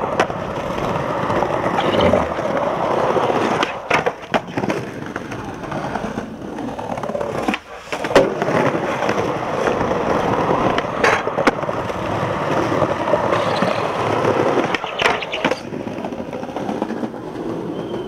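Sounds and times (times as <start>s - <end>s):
skateboard clacking on ground: 0.0s - 18.0s
skateboard wheels rolling on bricks: 0.0s - 18.0s.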